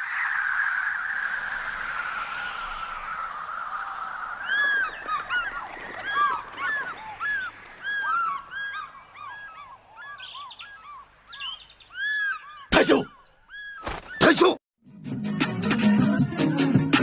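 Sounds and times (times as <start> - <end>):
flock of birds calling: 0.0 - 14.5.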